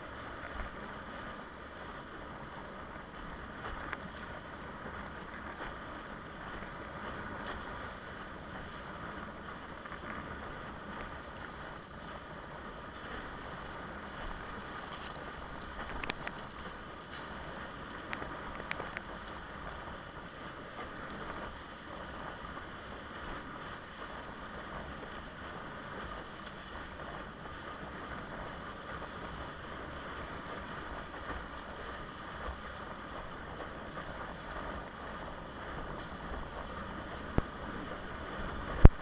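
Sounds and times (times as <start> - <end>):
wind and water rushing: 0.0 - 39.0
wind buffeting microphone: 0.0 - 39.0.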